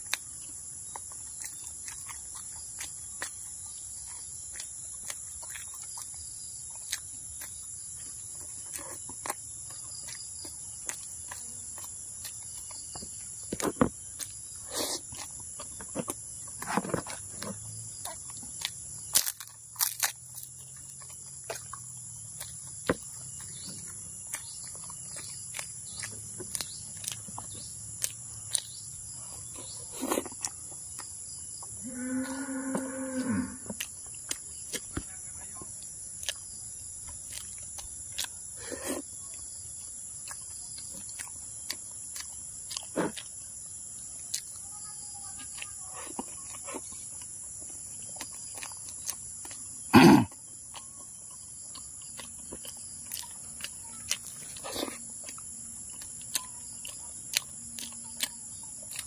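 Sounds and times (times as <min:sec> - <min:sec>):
man chewing and lip-smacking: 0:00.0 - 0:31.8, 0:33.7 - 0:44.7, 0:45.3 - 0:59.0
insect chorus: 0:00.0 - 0:59.0.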